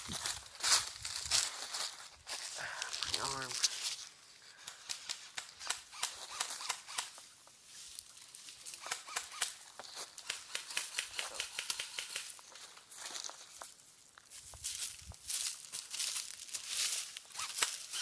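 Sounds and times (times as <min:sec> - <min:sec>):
footsteps crunching dry leaves: 0:00.0 - 0:18.0
twigs crackling and rustling: 0:00.0 - 0:18.0.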